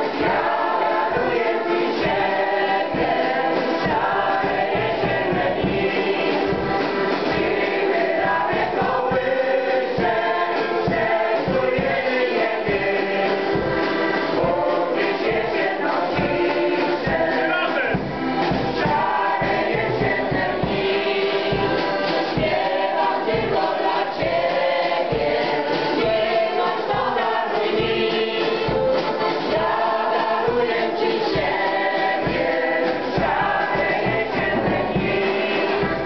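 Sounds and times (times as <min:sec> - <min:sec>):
accordion accompaniment: 0:00.0 - 0:36.0
folk choir singing: 0:00.0 - 0:36.0.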